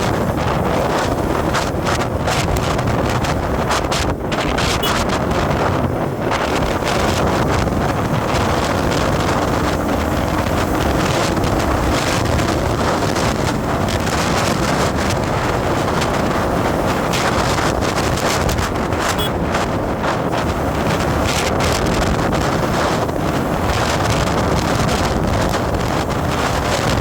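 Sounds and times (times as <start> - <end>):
moving road vehicle: 0.0 - 27.0
wind buffeting microphone: 0.0 - 27.0.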